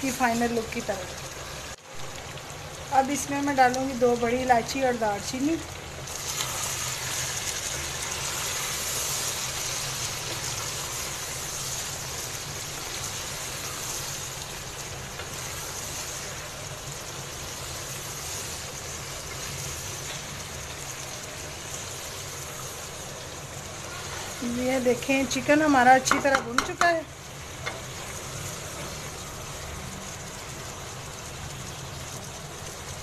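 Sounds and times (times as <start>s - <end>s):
chicken sizzling in a wok: 0.0s - 33.0s.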